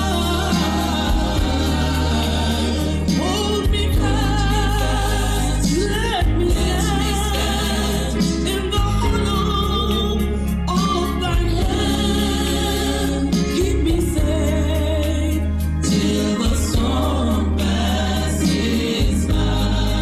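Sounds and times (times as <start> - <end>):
band playing: 0.0 - 20.0
choir singing gospel song: 0.0 - 20.0
steady bass: 0.0 - 20.0.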